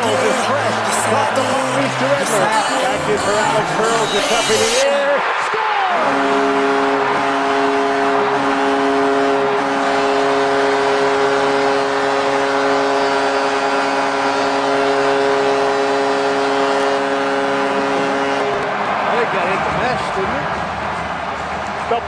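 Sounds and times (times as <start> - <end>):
goal horn blast: 0.0 - 19.1
crowd cheering: 0.0 - 22.0.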